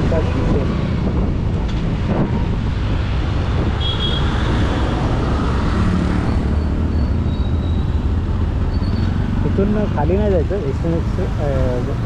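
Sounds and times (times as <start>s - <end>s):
other traffic: 0.0s - 12.0s
wind and road rumble: 0.0s - 12.0s.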